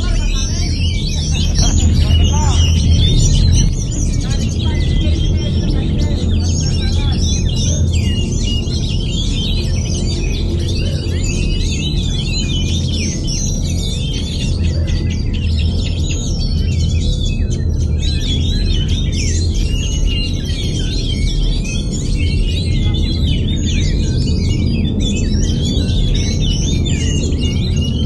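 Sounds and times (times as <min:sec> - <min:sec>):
bird singing whistles and chirps: 0:00.0 - 0:28.0
steady low hum: 0:00.0 - 0:28.0.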